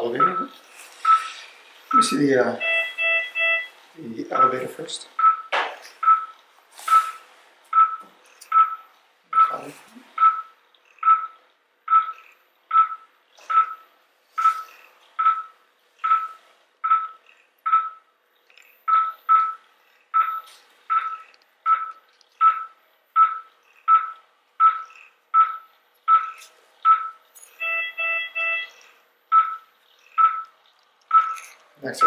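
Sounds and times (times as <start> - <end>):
patient monitor beeping: 0.0 - 32.0.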